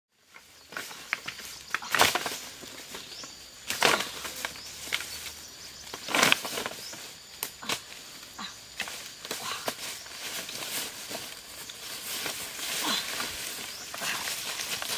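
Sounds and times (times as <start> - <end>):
dry leaves rustling and crunching: 0.2 - 14.9
dry sticks cracking: 0.7 - 14.9.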